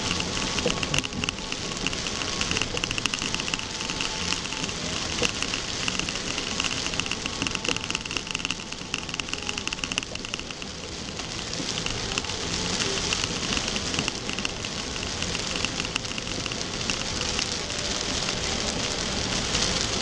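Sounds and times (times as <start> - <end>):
rain hissing on a car: 0.0 - 20.0
raindrops ticking on windshield: 0.0 - 20.0.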